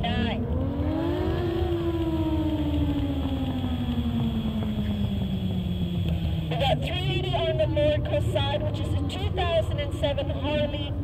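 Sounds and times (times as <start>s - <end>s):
engine winding down: 0.4s - 10.1s.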